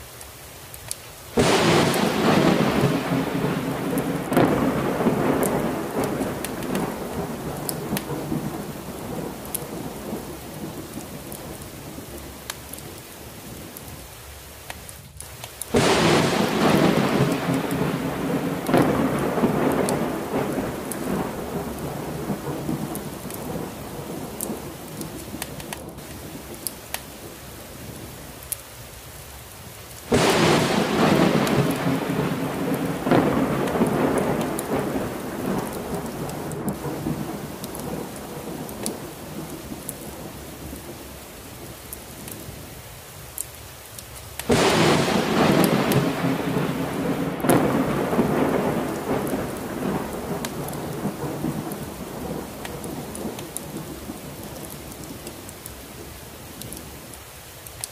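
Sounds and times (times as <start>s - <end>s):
heavy rain falling: 0.0s - 57.9s
thunder rumbling: 1.4s - 13.8s, 15.7s - 28.2s, 30.1s - 42.6s, 44.4s - 56.8s.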